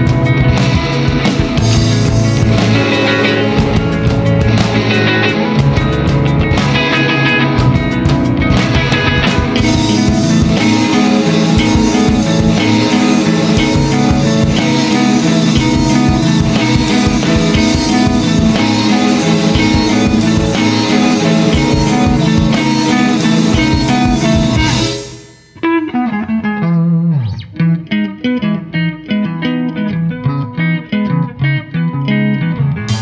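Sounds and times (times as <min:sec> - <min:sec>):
rock band playing: 0:00.0 - 0:30.0, 0:32.8 - 0:33.0
plucked guitar: 0:00.0 - 0:33.0.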